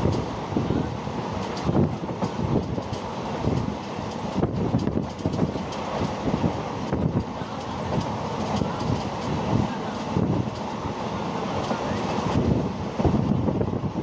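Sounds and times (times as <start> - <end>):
train clatter: 0.0 - 13.7
train wheels rumbling on rails: 0.0 - 14.0.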